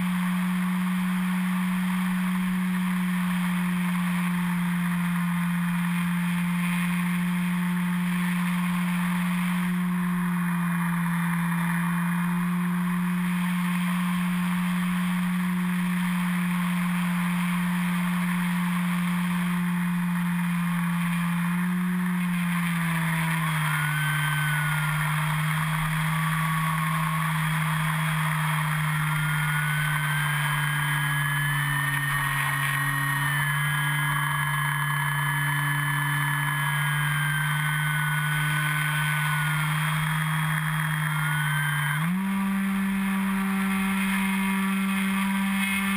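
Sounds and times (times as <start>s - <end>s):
electric motor whine: 0.0s - 45.9s
propeller drone: 0.0s - 45.9s.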